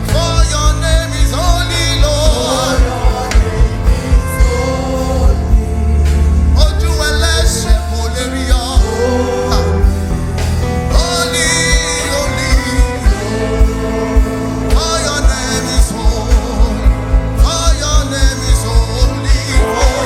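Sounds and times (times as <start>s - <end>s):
band with bass and drums: 0.0s - 20.0s
gospel singing: 0.0s - 20.0s.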